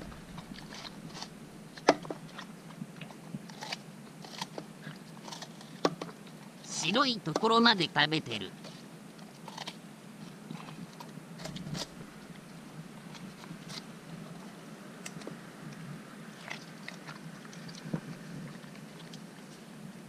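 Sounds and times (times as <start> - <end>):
puppy chewing watermelon rind: 0.0 - 6.2, 8.6 - 20.0.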